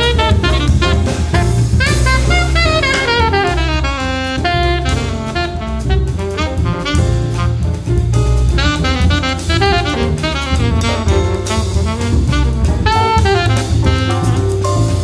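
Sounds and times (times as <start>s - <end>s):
jazz piano bass and drums: 0.0s - 15.0s
saxophone playing fast runs: 0.0s - 15.0s.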